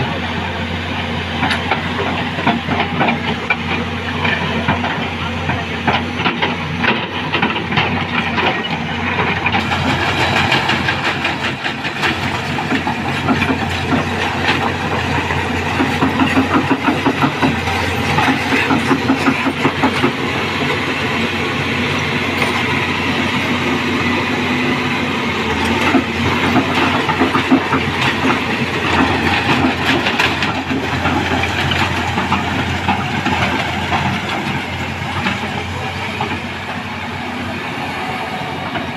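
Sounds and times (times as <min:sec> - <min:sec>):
heavy machinery rattling: 0:00.0 - 0:38.9.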